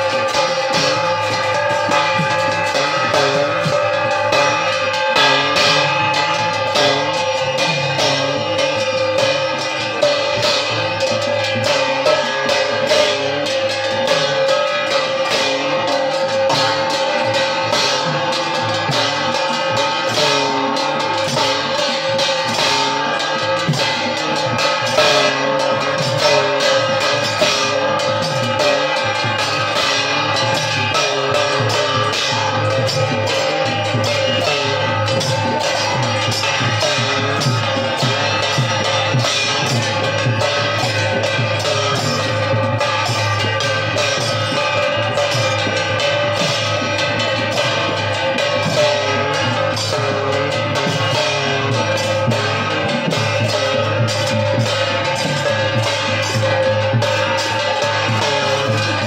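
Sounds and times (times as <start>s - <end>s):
busy drumming and percussion: 0.0s - 59.0s.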